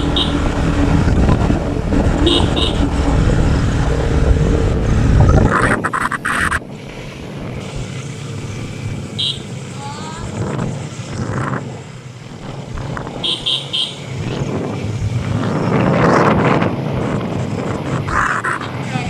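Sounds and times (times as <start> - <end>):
motorbike engine and wind rumble: 0.0 - 19.0.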